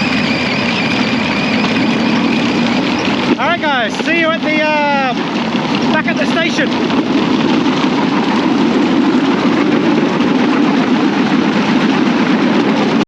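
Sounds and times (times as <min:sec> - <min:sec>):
small motor running: 0:00.0 - 0:13.0.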